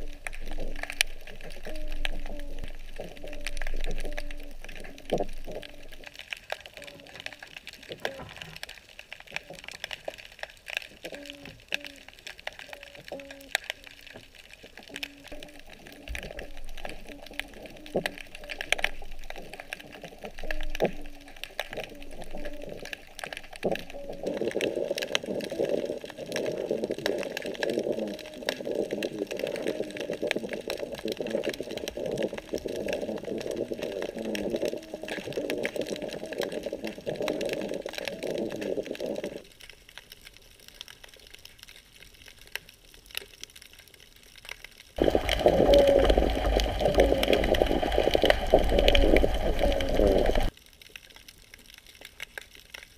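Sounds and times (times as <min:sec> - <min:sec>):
muffled water rush: 0:00.0 - 0:41.6, 0:44.8 - 0:50.6
underwater crackle of clicks: 0:00.0 - 0:52.9.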